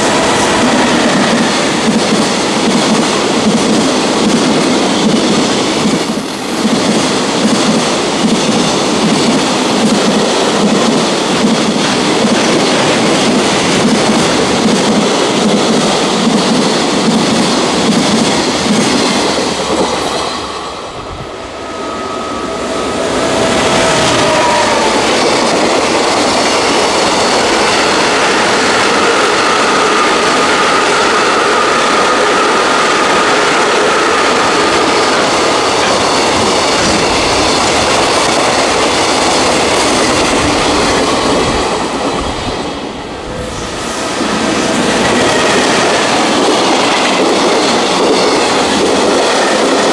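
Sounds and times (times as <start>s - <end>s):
freight train wheels clattering: 0.0s - 21.0s, 22.6s - 49.9s.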